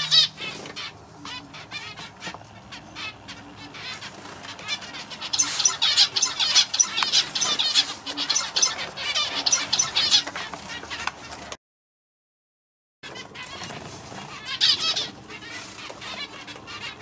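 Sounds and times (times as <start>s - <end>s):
finch singing: 0.0s - 11.5s, 13.0s - 17.0s.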